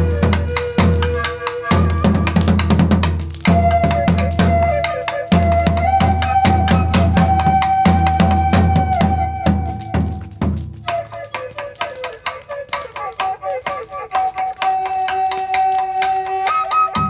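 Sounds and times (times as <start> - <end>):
low drum beat: 0.0 - 14.7
wooden flute: 0.0 - 17.0.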